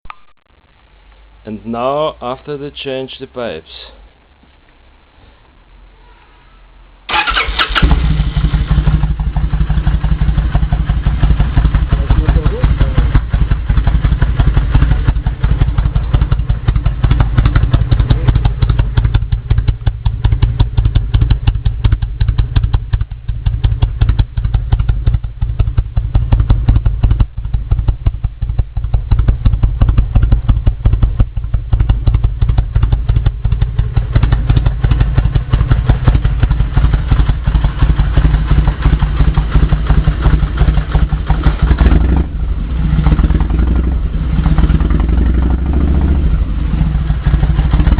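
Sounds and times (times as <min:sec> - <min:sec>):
motorcycle engine idling: 0:07.1 - 0:47.9.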